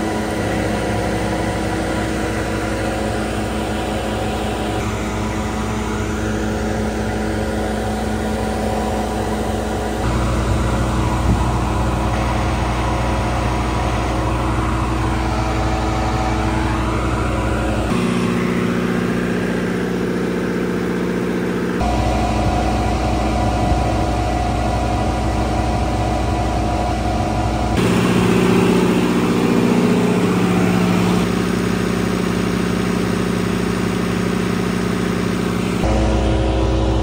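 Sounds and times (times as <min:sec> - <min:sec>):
cooling fans humming: 0:00.0 - 0:37.0
generator engine running: 0:00.0 - 0:37.0.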